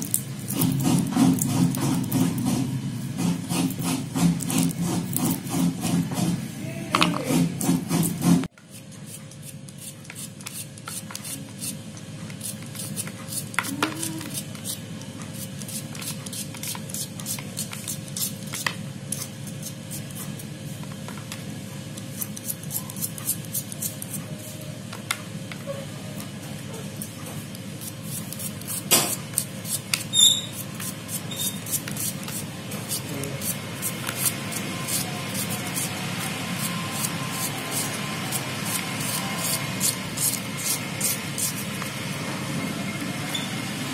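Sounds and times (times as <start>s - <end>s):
knife slicing onion: 0.0s - 21.1s, 21.9s - 25.1s, 26.2s - 42.2s.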